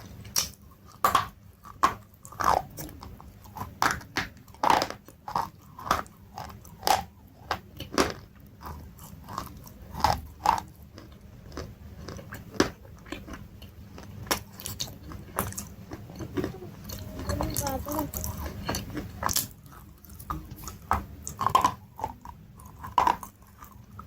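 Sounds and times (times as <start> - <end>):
crunchy chewing: 0.2 - 17.6, 18.2 - 24.0.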